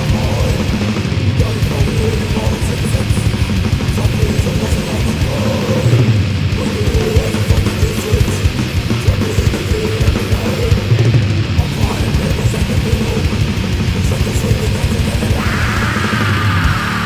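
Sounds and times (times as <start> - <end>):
distorted electric guitars riffing: 0.0 - 17.0
drum kit: 0.0 - 17.0.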